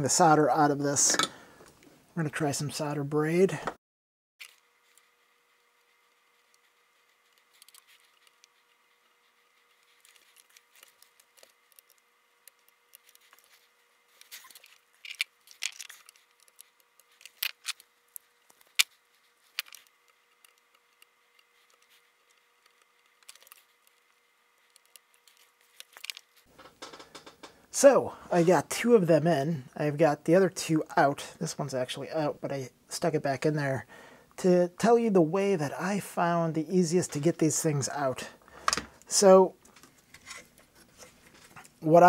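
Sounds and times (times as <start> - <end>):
faint steady whine: 4.4 - 42.0.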